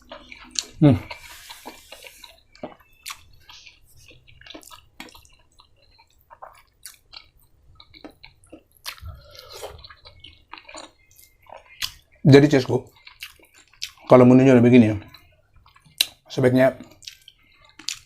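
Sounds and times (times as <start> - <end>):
mouth chewing food: 0.0 - 18.0.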